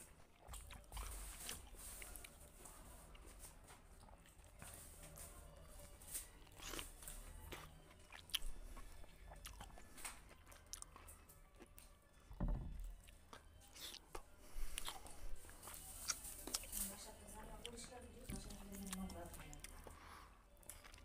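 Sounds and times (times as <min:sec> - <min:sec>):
man chewing food: 0:00.0 - 0:16.8, 0:17.4 - 0:21.0.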